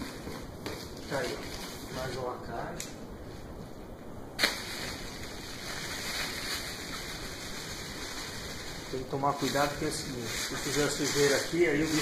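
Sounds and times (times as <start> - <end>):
cardboard and bubble wrap rustling: 0.0 - 2.5, 4.4 - 12.0.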